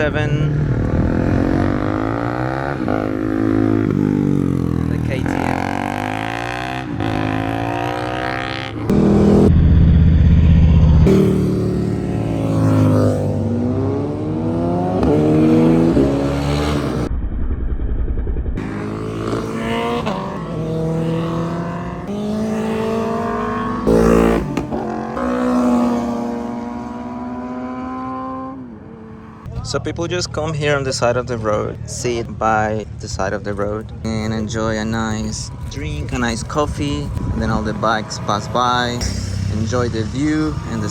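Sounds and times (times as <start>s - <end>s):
motorcycles passing and revving: 0.0s - 17.1s, 18.1s - 40.9s.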